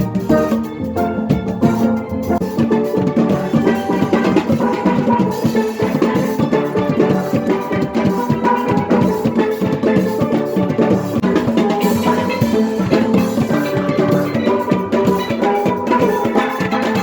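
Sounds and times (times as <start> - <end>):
drums and percussion: 0.0 - 17.0
steel pans playing a tune: 0.0 - 17.0.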